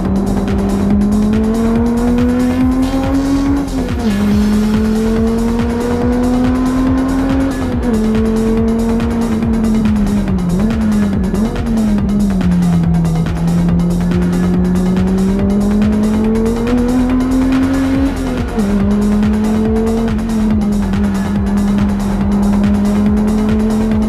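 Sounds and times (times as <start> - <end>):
car engine revving hard: 0.0 - 24.0
engine throttle blips: 0.0 - 24.0.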